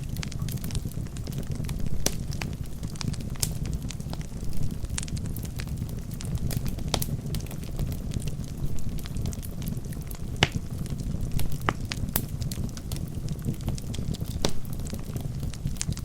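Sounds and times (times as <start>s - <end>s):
logs crackling and popping: 0.0s - 16.0s
rumble of fire flames: 0.0s - 16.0s.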